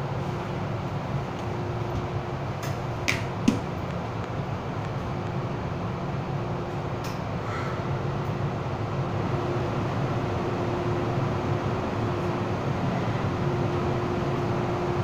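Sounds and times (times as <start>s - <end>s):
train air conditioning hum: 0.0s - 15.0s.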